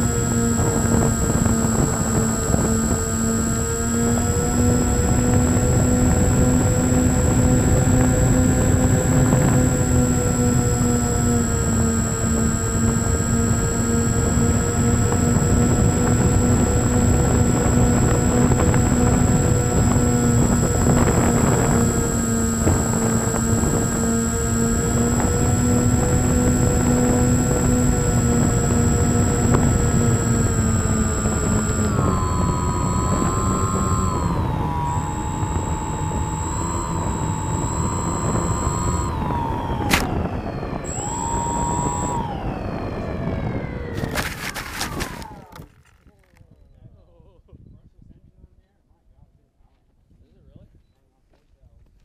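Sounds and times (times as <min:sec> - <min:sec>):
wind buffeting microphone: 0:00.0 - 0:45.8
model airplane motor whining: 0:00.0 - 0:46.3.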